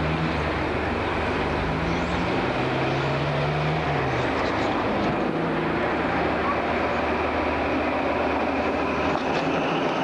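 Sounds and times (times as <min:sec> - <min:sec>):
diesel train engine drone: 0:00.0 - 0:10.0
train rumble: 0:00.0 - 0:10.0.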